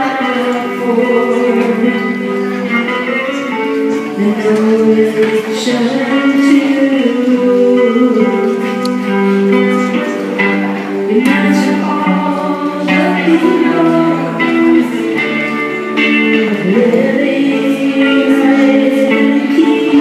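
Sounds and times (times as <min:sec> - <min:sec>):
person singing: 0:00.0 - 0:20.0
plucked electric guitar: 0:00.0 - 0:20.0.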